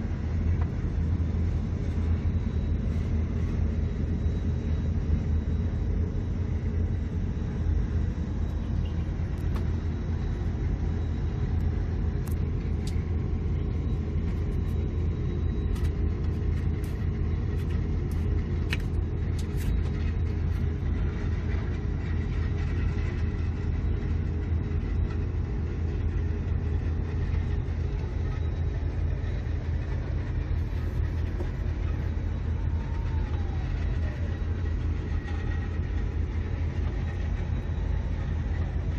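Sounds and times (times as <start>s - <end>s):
excavator diesel engine droning: 0.0s - 38.9s.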